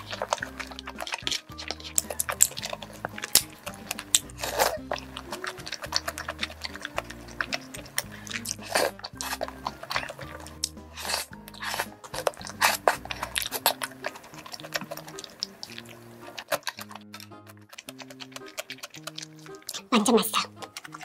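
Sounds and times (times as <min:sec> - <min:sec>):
background music: 0:00.0 - 0:21.0
sharp mouth clicks: 0:00.0 - 0:21.0
wet chewing and mouth smacking: 0:00.0 - 0:21.0.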